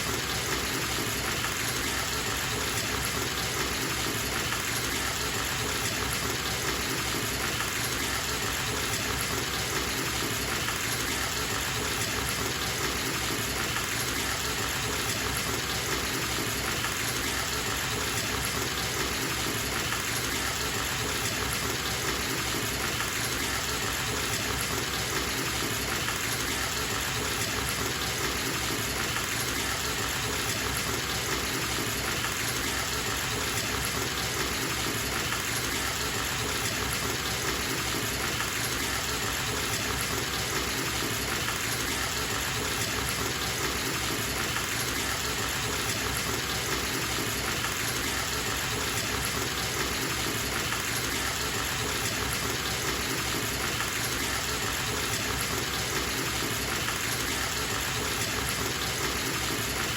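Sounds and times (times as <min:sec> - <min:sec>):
water gushing into bathtub: 0:00.0 - 0:59.9.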